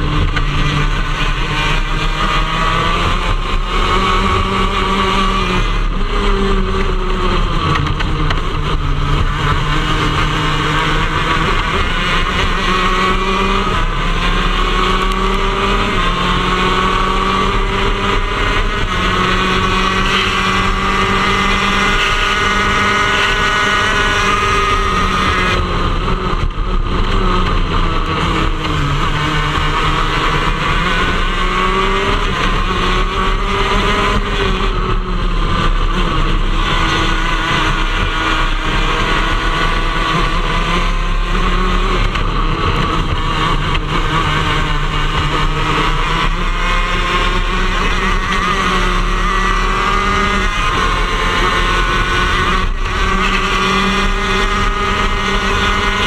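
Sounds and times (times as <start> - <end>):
two-stroke racing engine at speed: 0.0 - 56.0.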